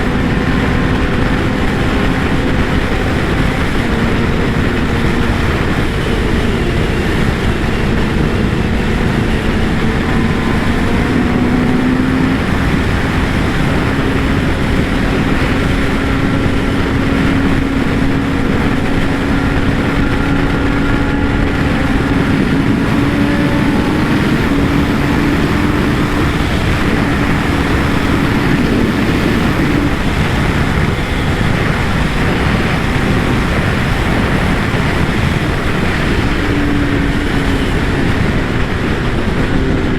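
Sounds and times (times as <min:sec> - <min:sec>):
motorcycle engine cruising: 0:00.0 - 0:39.9
wind rush: 0:00.0 - 0:39.9.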